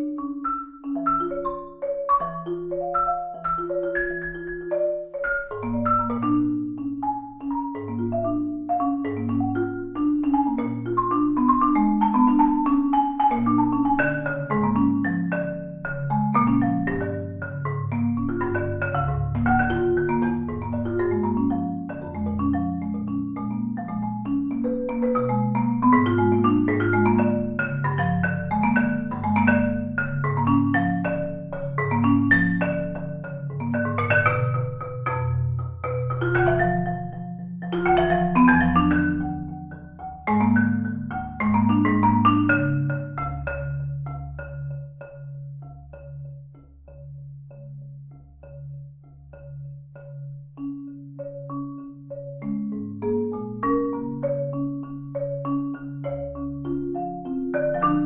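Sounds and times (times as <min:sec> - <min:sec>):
solo marimba playing: 0:00.0 - 0:58.0.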